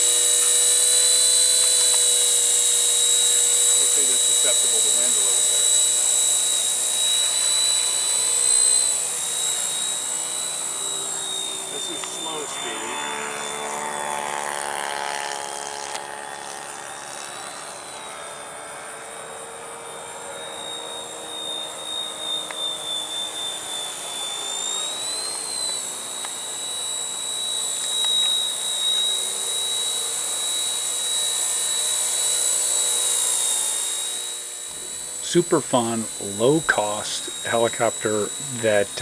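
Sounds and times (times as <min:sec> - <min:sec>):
rc helicopter motor whine: 0:00.0 - 0:39.0.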